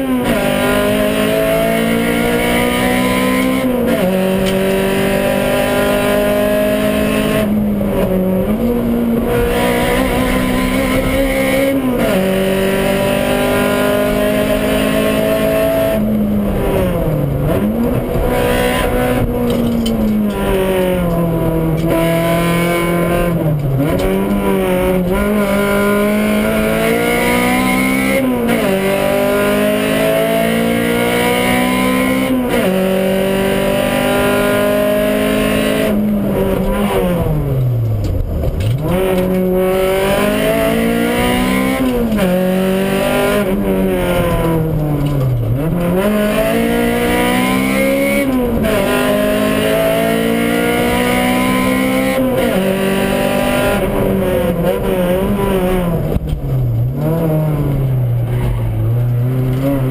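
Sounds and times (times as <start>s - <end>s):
car engine pulling hard: 0.0s - 59.9s.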